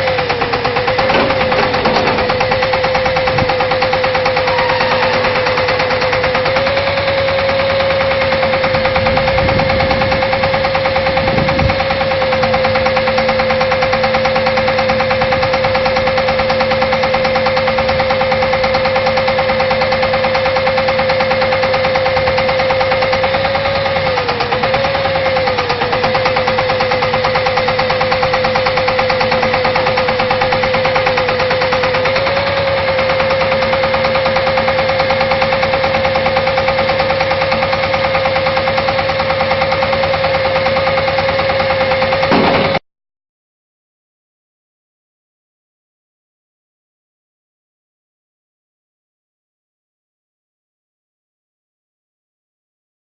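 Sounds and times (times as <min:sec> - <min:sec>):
air hammer drilling rig hammering: 0:00.0 - 0:42.8
steady machine whine: 0:00.0 - 0:42.8.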